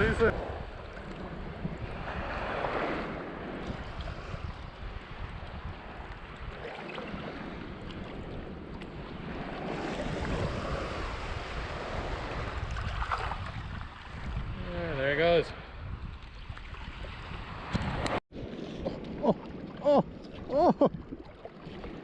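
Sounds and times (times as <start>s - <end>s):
small waves washing on sand: 0.0s - 20.2s
wind buffeting microphone: 0.0s - 22.0s.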